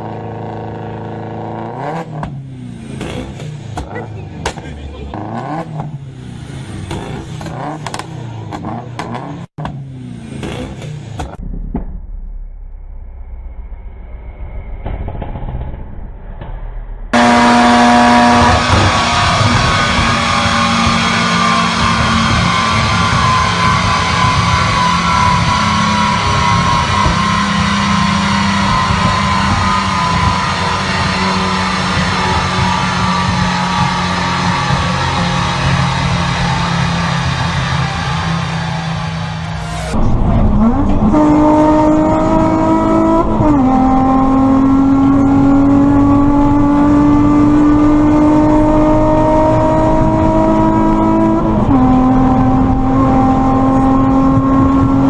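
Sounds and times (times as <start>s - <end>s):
car engines revving: 0.0s - 15.8s, 16.4s - 55.0s.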